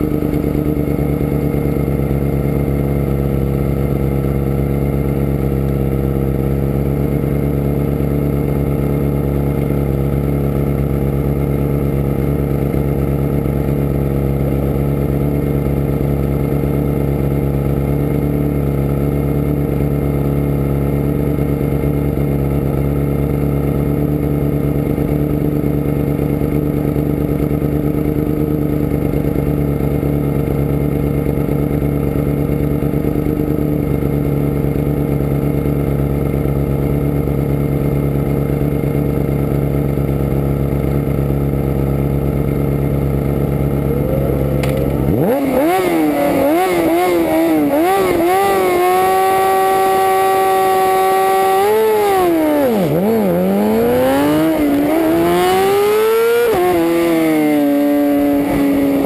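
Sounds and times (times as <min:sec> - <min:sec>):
motorcycle engines idling and revving: 0:00.0 - 0:59.0.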